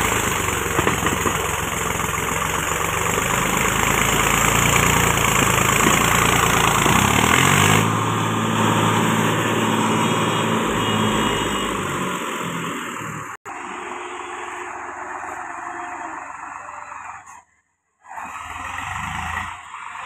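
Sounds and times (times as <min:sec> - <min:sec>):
tractor diesel engine running hard: 0:00.0 - 0:17.0.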